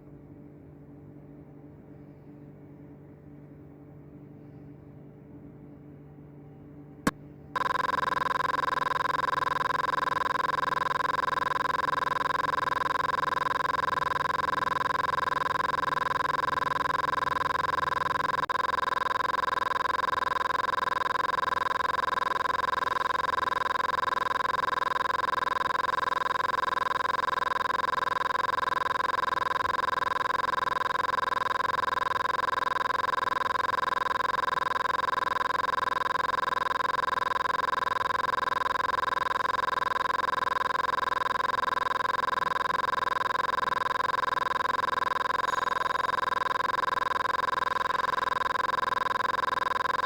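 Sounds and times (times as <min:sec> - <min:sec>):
steady electronic tone: 0:07.6 - 0:50.0.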